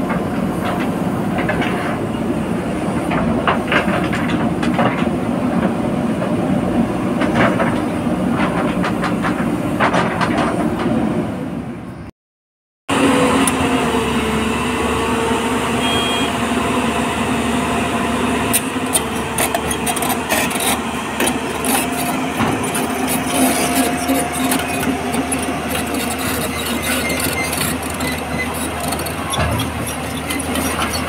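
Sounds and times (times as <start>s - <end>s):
excavator diesel engine: 0.0s - 12.1s, 12.9s - 31.0s.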